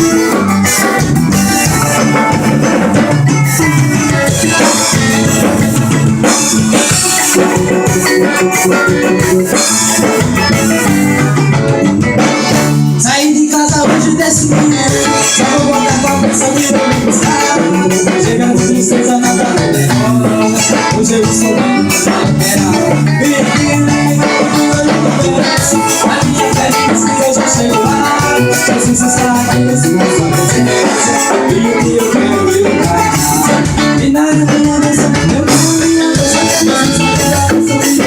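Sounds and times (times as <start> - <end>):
live band playing gospel music: 0.0 - 38.0.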